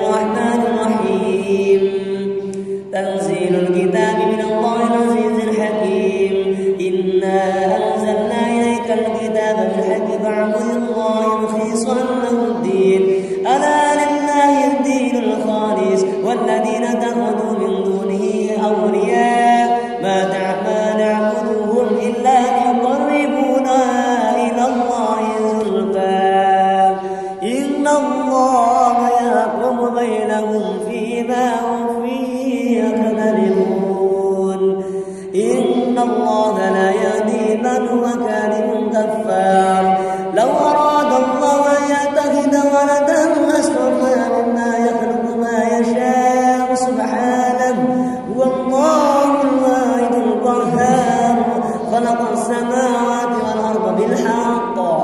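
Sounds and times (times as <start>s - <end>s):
man chanting melodically: 0.0s - 55.0s.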